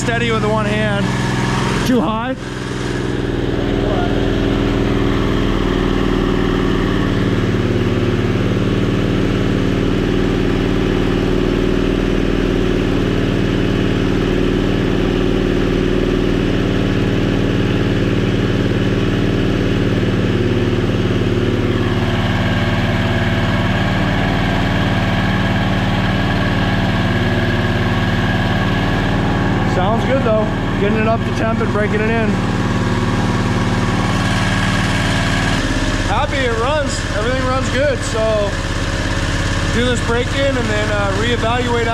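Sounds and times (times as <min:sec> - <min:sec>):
v-twin engine running: 0:00.0 - 0:41.9.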